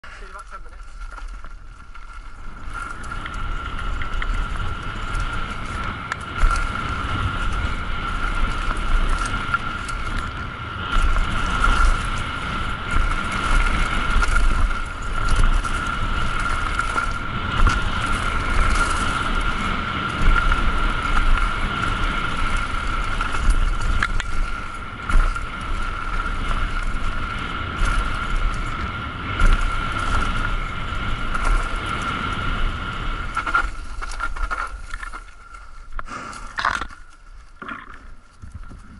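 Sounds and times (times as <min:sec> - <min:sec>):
wind buffeting: 0:00.0 - 0:35.6
bike clicks and rattles: 0:00.0 - 0:38.9
bike tyres rumbling on dirt: 0:00.0 - 0:38.9.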